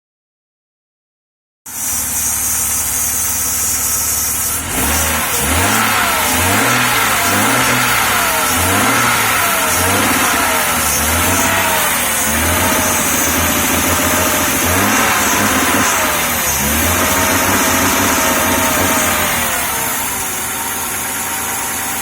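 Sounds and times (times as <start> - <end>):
car engine idling and revving: 1.7 - 22.0.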